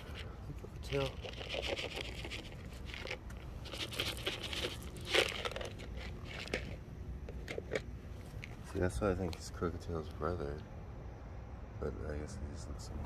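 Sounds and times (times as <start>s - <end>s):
crunching and scraping: 0.0s - 10.6s.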